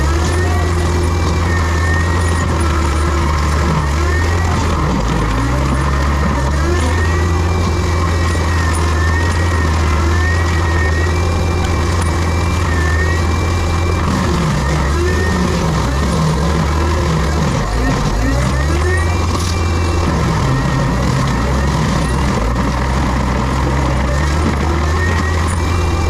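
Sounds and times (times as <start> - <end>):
diesel engine droning with whine: 0.0 - 26.0.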